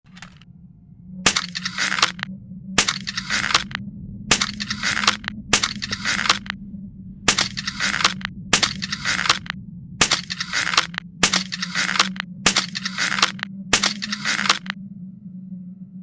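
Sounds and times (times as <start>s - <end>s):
steady low hum: 0.0s - 16.0s
crossbow rasp and click: 0.1s - 0.4s, 1.3s - 6.6s, 7.3s - 14.8s.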